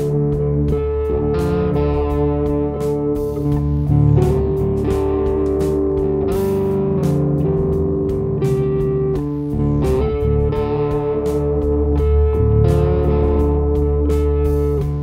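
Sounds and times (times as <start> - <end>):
instrumental music with held chords: 0.0 - 15.0
steady drum beat: 0.0 - 15.0.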